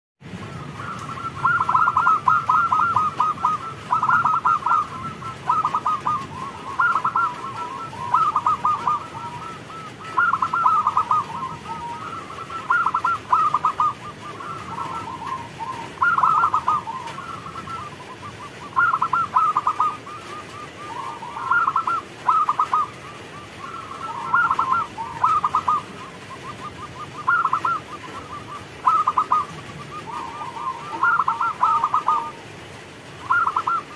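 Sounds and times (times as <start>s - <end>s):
dove cooing: 0.4s - 33.9s.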